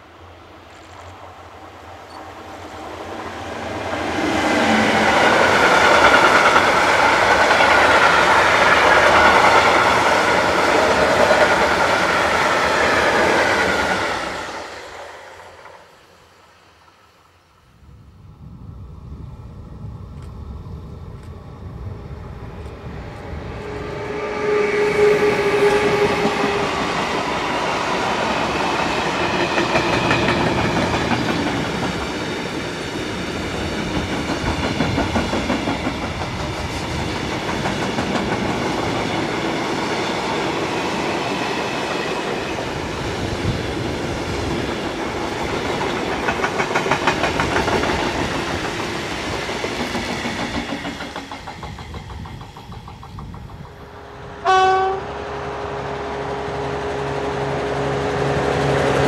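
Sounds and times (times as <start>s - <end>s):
train wheels rumbling on rails: 0.0s - 16.5s, 18.3s - 59.0s
electric locomotive passing: 0.0s - 59.0s.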